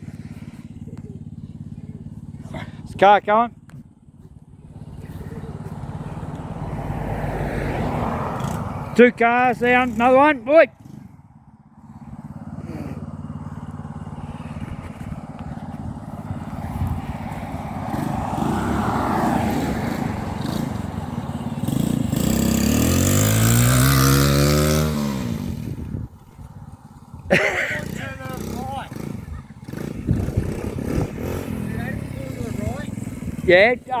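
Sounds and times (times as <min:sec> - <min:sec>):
road traffic passing: 0:00.0 - 0:34.0
vehicle engine passing close: 0:00.0 - 0:34.0.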